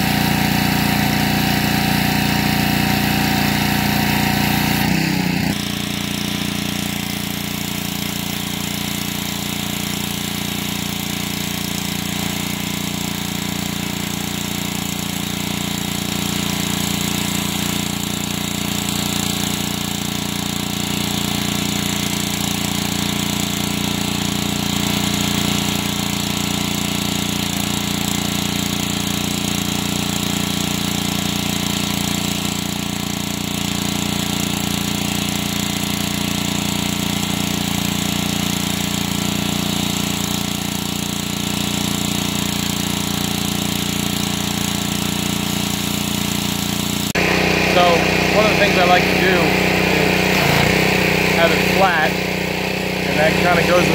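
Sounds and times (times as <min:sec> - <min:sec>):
high-pressure water spray hissing: 0:00.0 - 0:53.9
pressure washer engine running: 0:00.0 - 0:53.9.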